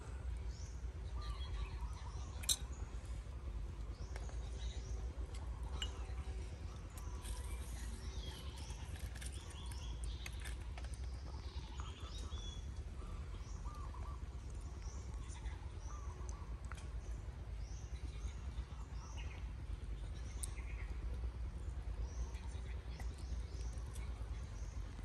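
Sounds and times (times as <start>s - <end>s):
birds chirping and singing: 0.0s - 25.0s
steady low rumble: 0.0s - 25.0s.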